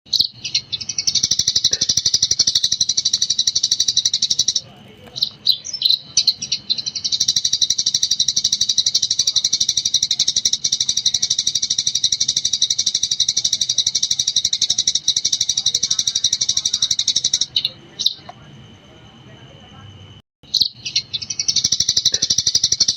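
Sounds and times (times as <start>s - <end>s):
sparrow chattering: 0.1s - 18.8s, 20.4s - 22.9s.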